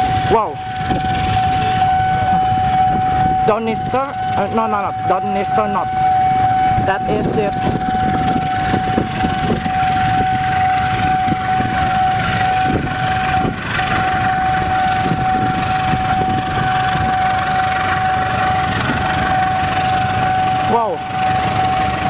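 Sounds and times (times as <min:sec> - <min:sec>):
steady whine: 0:00.0 - 0:22.0
train rumble with wheel clatter: 0:00.0 - 0:22.0.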